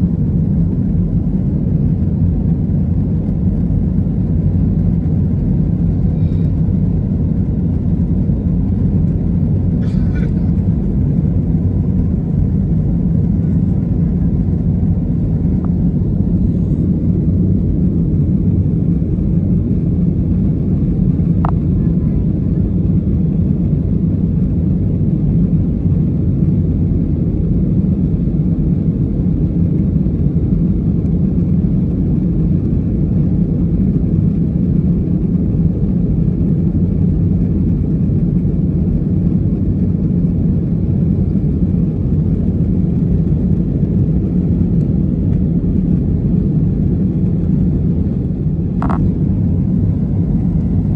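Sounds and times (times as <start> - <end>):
airplane cabin drone: 0.0 - 50.9.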